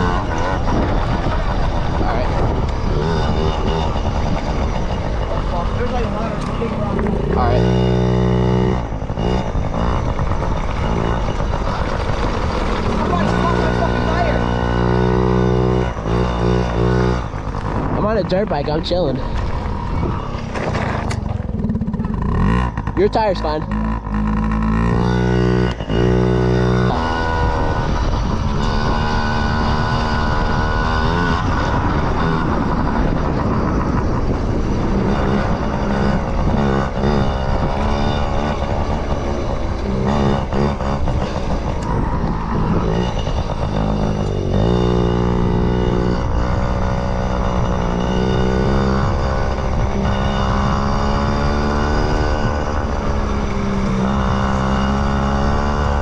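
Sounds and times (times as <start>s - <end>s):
small two-stroke engine running: 0.0s - 56.0s.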